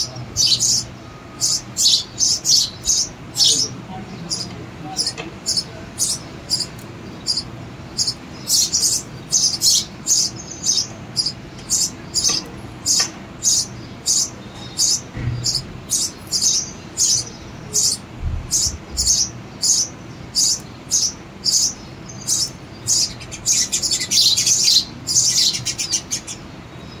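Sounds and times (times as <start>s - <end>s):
nestlings chirping: 0.0s - 27.0s.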